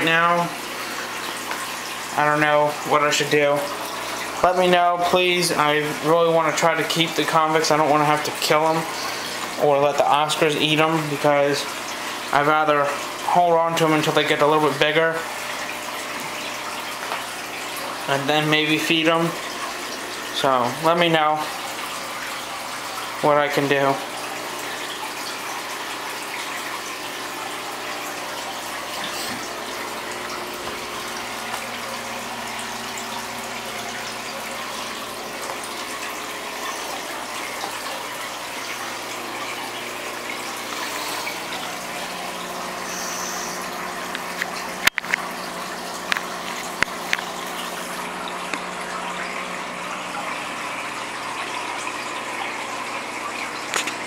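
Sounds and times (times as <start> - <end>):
fish tank filter water splashing: 0.0 - 54.0.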